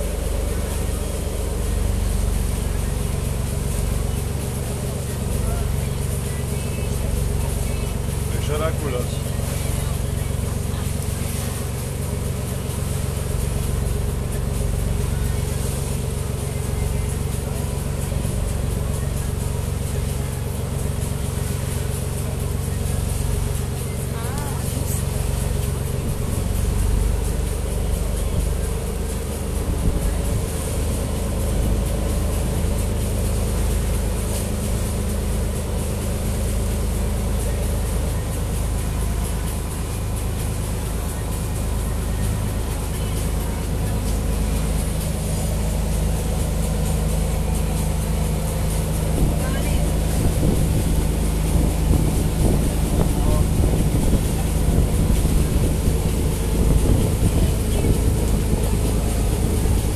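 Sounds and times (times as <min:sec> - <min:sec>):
motorboat engine droning: 0:00.0 - 0:59.9
water rushing past hull: 0:00.0 - 0:59.9.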